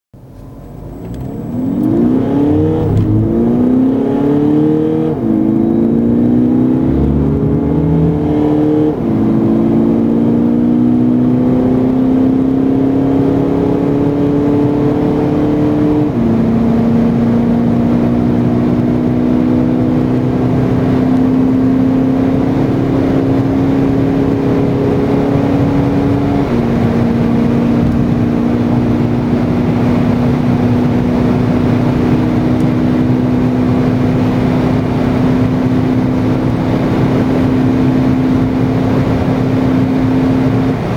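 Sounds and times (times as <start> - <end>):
car engine accelerating: 0.2 - 40.9.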